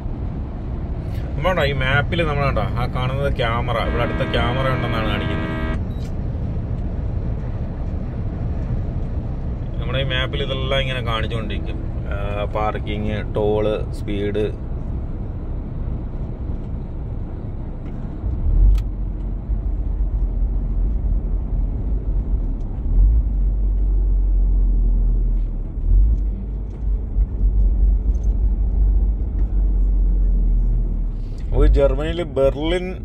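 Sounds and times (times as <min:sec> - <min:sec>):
truck engine drone: 0:00.0 - 0:06.6, 0:09.9 - 0:32.0
road rumble: 0:00.0 - 0:33.0.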